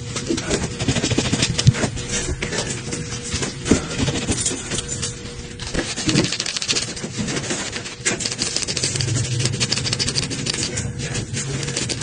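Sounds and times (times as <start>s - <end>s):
scratching and scrubbing on phone: 0.0s - 12.0s.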